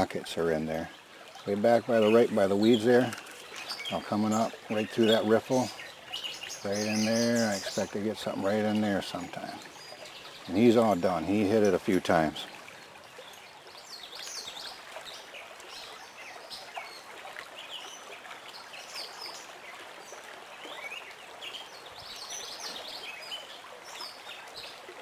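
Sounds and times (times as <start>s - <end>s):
birds chirping: 0.0s - 24.8s
stream water running: 0.0s - 25.0s.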